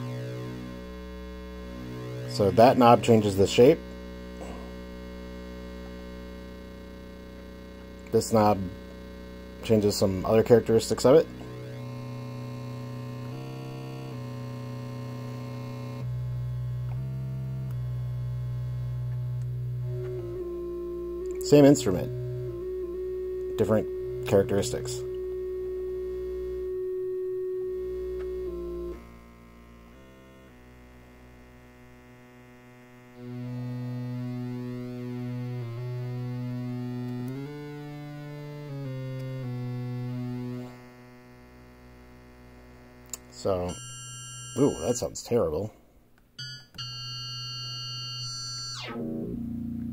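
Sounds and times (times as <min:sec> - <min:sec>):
synthesizer holding low note: 0:00.0 - 0:45.1, 0:46.8 - 0:49.9.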